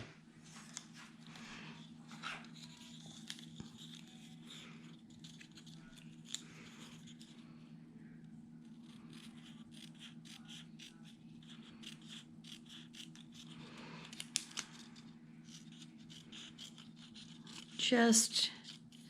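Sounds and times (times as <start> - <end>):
scissors snipping paper: 2.3 - 7.3, 8.7 - 19.0.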